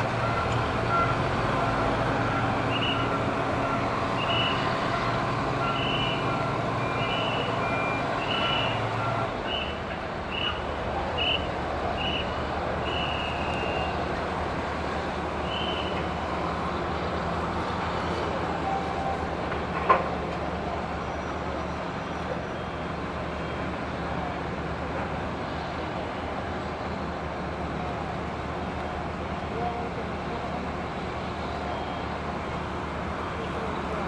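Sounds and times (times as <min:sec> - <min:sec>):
drone of vehicles and machinery: 0:00.0 - 0:34.0.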